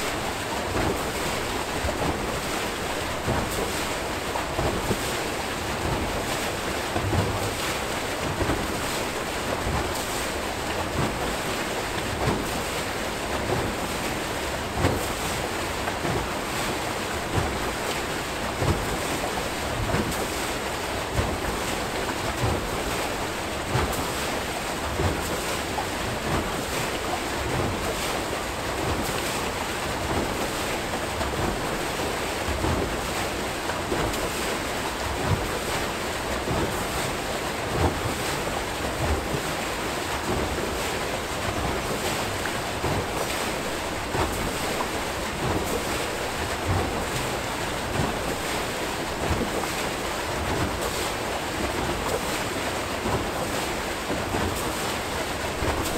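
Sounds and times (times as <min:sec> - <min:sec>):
water rushing and churning: 0:00.0 - 0:55.9
water splash: 0:00.0 - 0:55.9.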